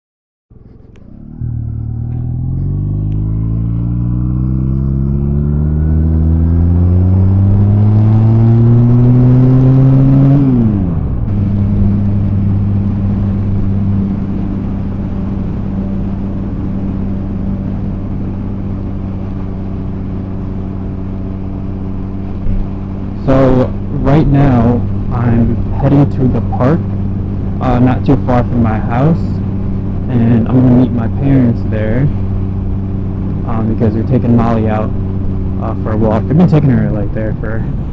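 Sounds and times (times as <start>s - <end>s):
motorcycle engine accelerating: 0.5s - 37.9s.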